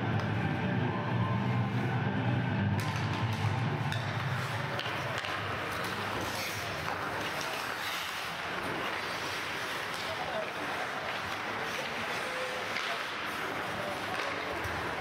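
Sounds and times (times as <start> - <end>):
arena hall noise: 0.0 - 15.0
skates scraping on ice: 2.8 - 15.0
stick hitting puck: 2.8 - 15.0.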